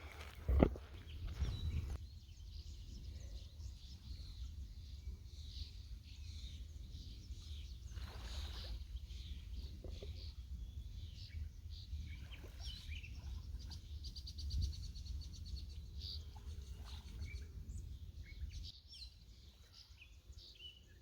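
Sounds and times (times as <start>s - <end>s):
wind rumble on microphone: 0.0s - 19.5s
small birds chirping: 0.0s - 21.0s.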